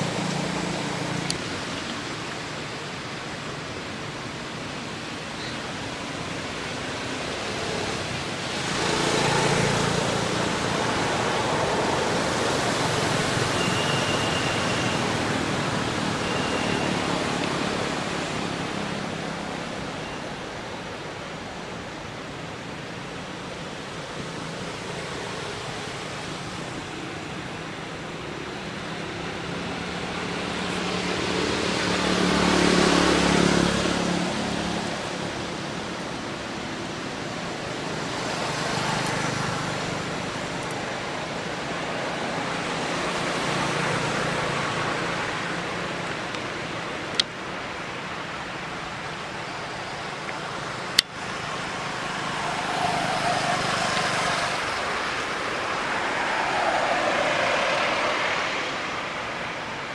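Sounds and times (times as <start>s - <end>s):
road vehicles passing: 0.0s - 59.9s.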